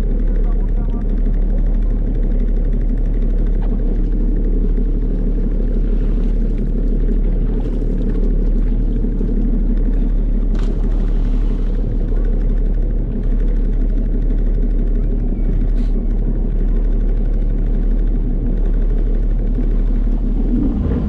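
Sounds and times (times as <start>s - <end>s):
jet ski engine running: 0.0s - 21.0s.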